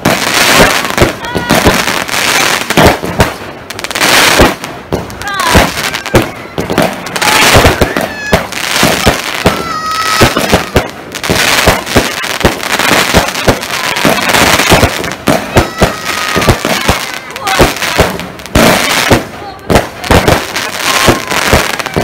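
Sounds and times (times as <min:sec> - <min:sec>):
fireworks bangs and crackles: 0:00.0 - 0:22.0
fireworks hiss: 0:00.0 - 0:22.0.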